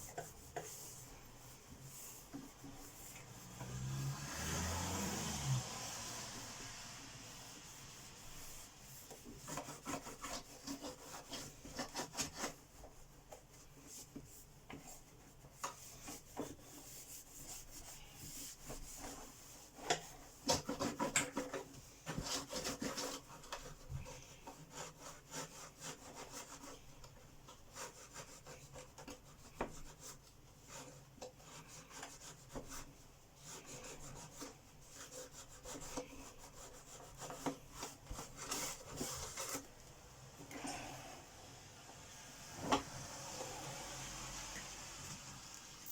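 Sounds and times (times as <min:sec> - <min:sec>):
hand scrubbing plastic: 0:00.0 - 0:06.6, 0:07.2 - 0:39.8.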